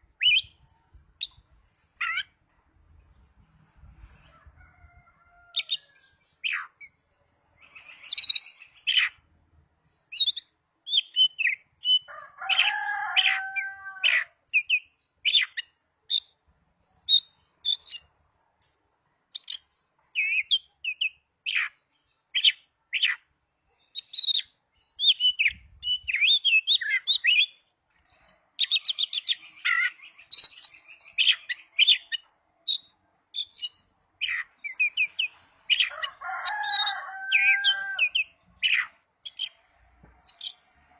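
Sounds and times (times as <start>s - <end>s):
songbird singing: 0.0s - 18.2s, 19.2s - 40.9s.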